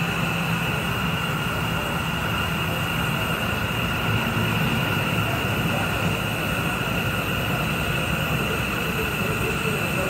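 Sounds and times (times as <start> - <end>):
gas stove burner roaring: 0.0 - 10.0.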